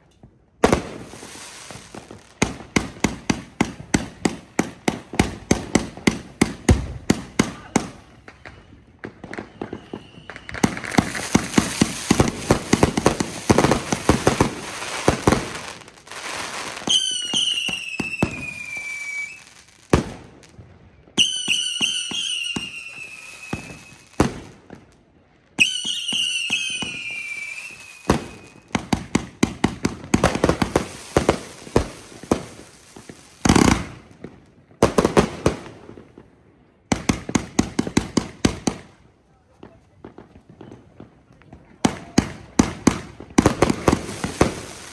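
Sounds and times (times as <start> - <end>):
firework crackling: 0.0 - 36.3, 39.7 - 44.9
firework shots: 0.6 - 20.6, 21.2 - 24.9, 25.6 - 36.3, 39.6 - 44.9
whistling firework shots: 0.6 - 25.0, 25.6 - 36.0, 40.1 - 44.9.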